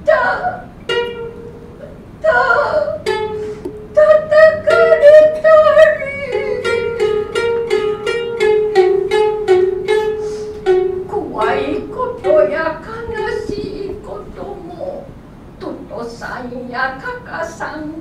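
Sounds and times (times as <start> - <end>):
shamisen plucked notes: 0.1 - 15.2.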